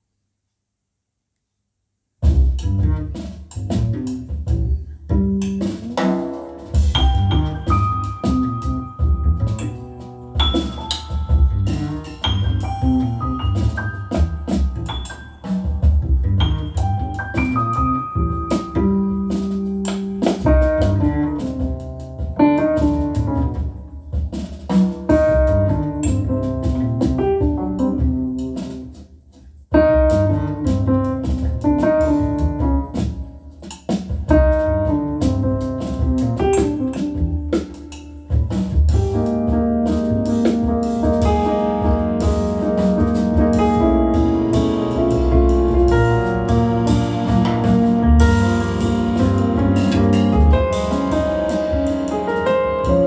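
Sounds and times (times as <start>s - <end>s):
drums: 2.2s - 53.0s
piano: 2.2s - 53.0s
piano trio music over loudspeakers: 3.9s - 29.0s, 29.7s - 53.0s.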